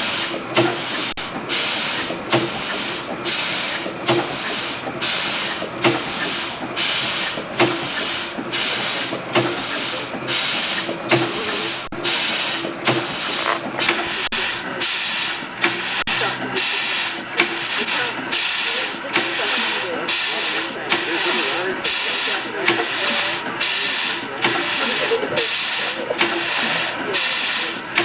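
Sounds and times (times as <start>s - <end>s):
steam engine exhaust chuffing: 0.0s - 28.0s.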